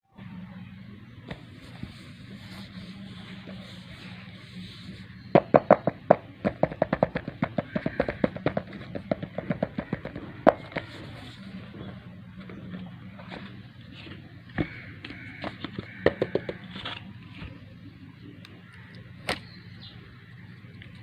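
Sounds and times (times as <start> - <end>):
steady low hum: 0.1 - 21.0.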